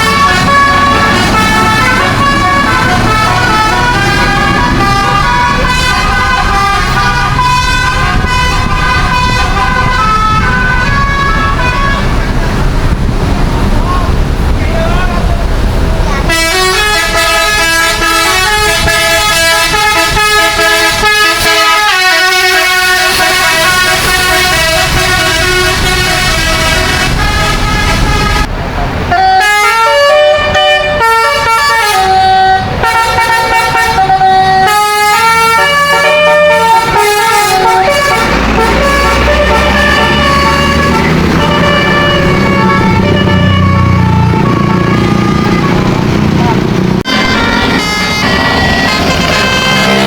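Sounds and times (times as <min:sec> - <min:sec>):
bus musical air horns: 0:00.0 - 0:13.1, 0:16.1 - 0:28.5, 0:29.1 - 0:50.0.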